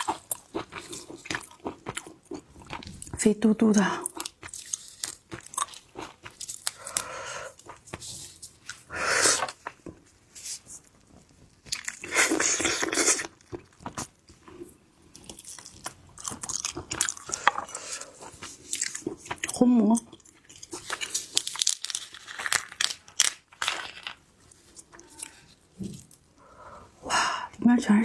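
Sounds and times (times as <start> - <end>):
crunching and chewing shrimp: 0.0 - 26.4.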